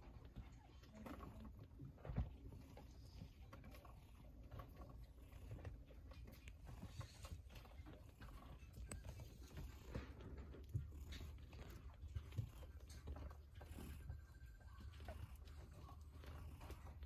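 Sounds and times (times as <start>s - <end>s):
kittens rustling and scuffling: 0.0s - 17.0s.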